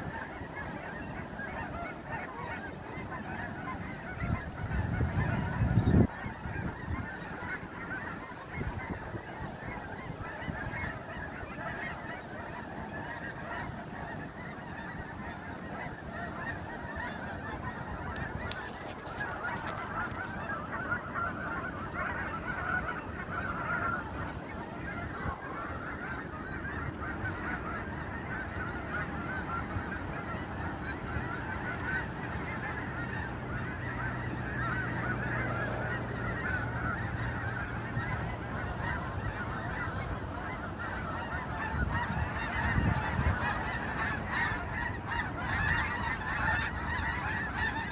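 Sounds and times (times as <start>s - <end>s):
flock of geese honking: 0.0s - 47.9s.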